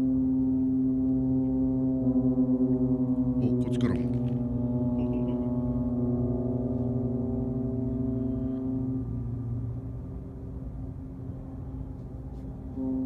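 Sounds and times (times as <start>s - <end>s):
ship horns blasting: 1.6s - 13.0s.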